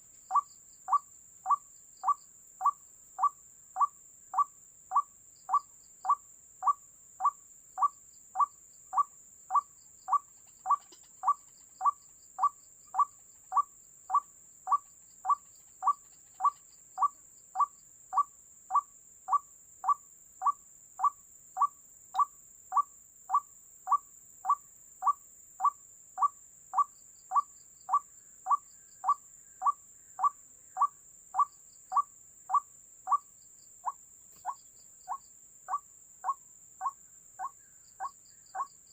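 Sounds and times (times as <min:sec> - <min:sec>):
faint high chirps: 0:00.0 - 0:38.9.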